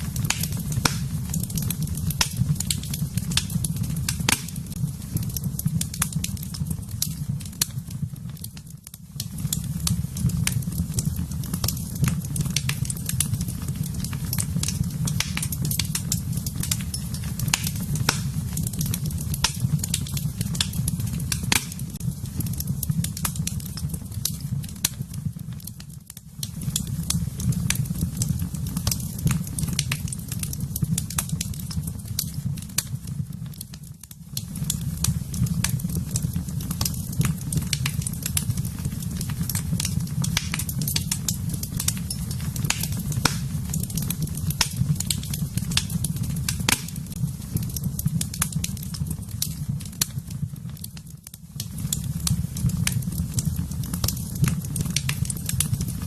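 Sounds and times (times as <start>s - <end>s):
fire crackling: 0.0s - 56.0s
low rumble of flames: 0.0s - 56.0s
sharp pops of fire: 0.0s - 56.0s.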